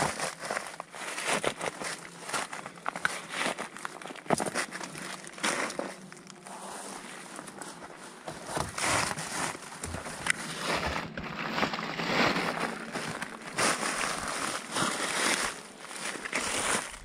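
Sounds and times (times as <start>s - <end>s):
footsteps in dry leaves and snow: 0.0s - 17.0s.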